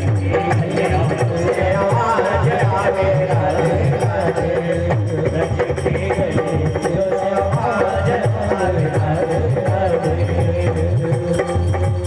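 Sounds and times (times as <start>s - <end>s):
steady drum beat: 0.0s - 12.0s.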